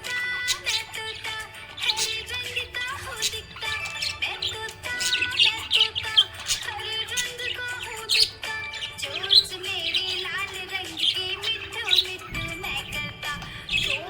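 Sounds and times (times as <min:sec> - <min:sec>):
budgie chirping and warbling: 0:00.0 - 0:14.0.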